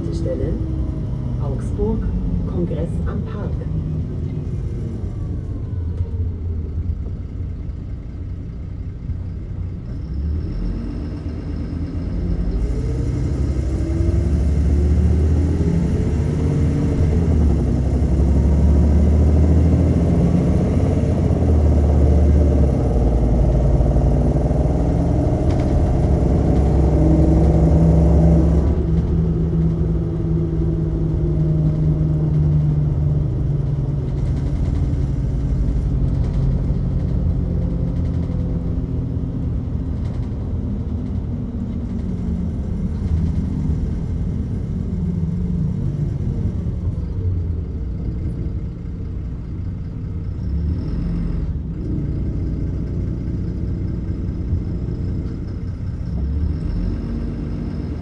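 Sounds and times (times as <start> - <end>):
bus engine accelerating: 0.0 - 58.0.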